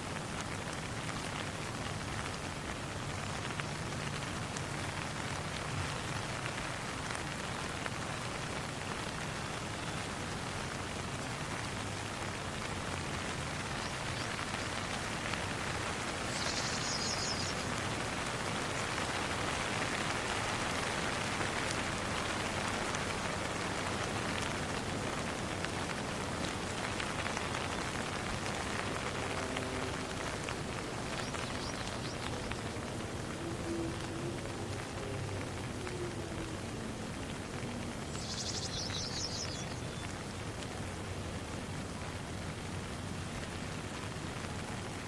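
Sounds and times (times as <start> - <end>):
rain falling on a pond: 0.0 - 45.0.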